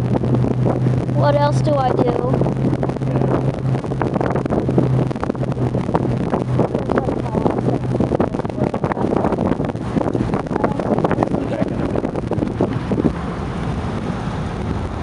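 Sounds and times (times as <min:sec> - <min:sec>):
car engine running: 0:00.0 - 0:15.0
wind buffeting microphone: 0:00.0 - 0:15.0.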